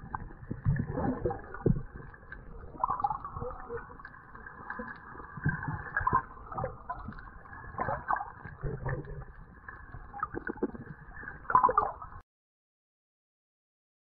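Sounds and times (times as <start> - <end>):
water swishing underwater: 0.0 - 12.2.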